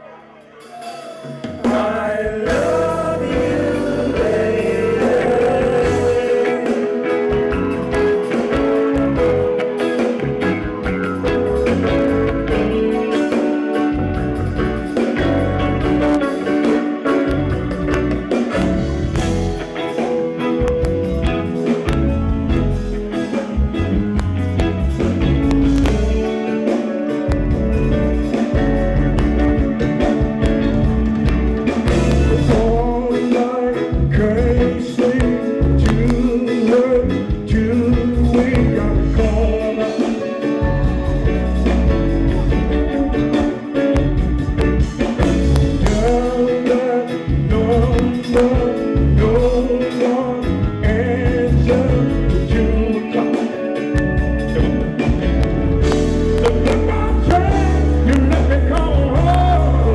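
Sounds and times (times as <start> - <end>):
live funk band playing: 0.0 - 59.9
person singing: 0.0 - 59.9
heavy pulsing bass line: 1.7 - 13.1, 13.9 - 16.4, 17.3 - 26.5, 27.2 - 33.2, 33.9 - 36.4, 37.0 - 39.8, 40.6 - 46.6, 47.3 - 49.8, 50.4 - 53.0, 54.0 - 59.9.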